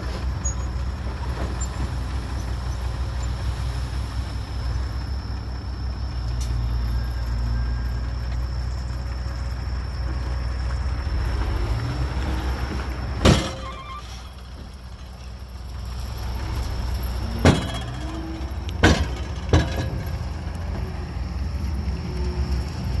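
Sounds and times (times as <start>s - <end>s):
diesel machinery rumbling: 0.0s - 23.0s.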